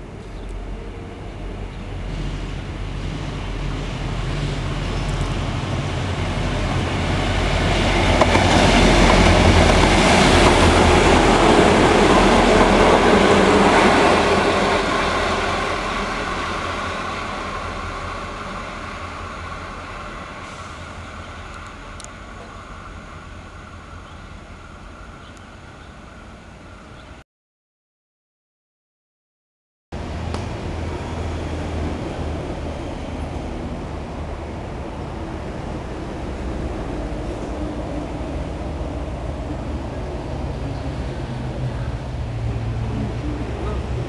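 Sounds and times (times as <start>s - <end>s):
train wheels on rails: 0.0s - 26.6s, 30.0s - 44.0s
diesel locomotive engines: 0.0s - 27.2s, 30.0s - 44.0s.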